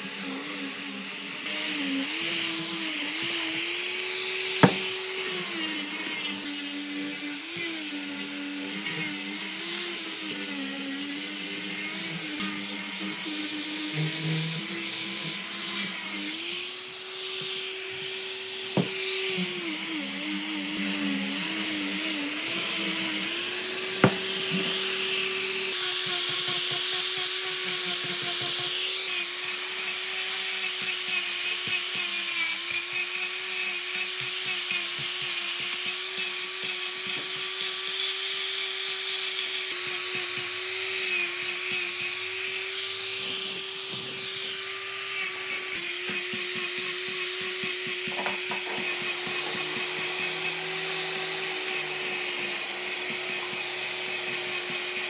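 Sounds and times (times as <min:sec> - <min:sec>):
power tool motor whine: 0:00.0 - 0:55.0
tool rasping on wood: 0:00.6 - 0:55.0.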